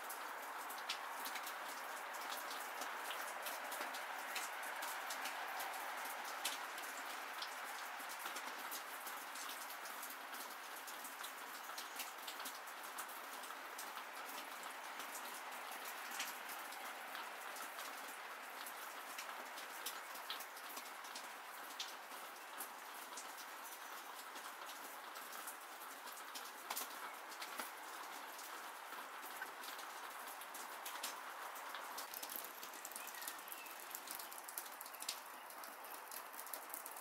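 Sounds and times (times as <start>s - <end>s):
sharp drips ticking: 0.0s - 37.0s
steady rain falling: 0.0s - 37.0s.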